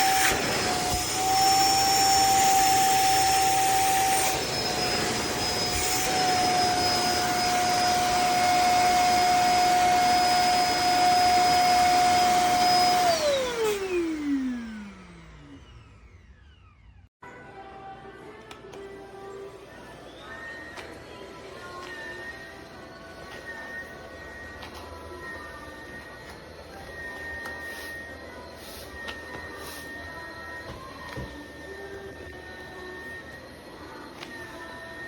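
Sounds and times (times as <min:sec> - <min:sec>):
electric spin mop whining: 0:00.0 - 0:17.1, 0:19.8 - 0:35.0.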